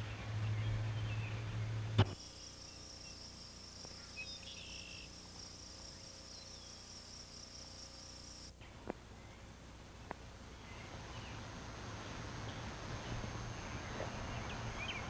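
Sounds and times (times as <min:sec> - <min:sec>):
insects trilling: 0:00.0 - 0:15.0
low hum: 0:00.0 - 0:15.0.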